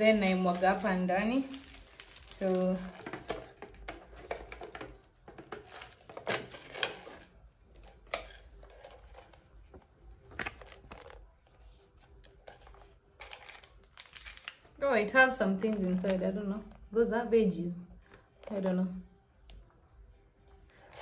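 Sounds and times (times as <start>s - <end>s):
crinkling and crackling of cup: 0.0s - 17.0s, 17.8s - 21.0s.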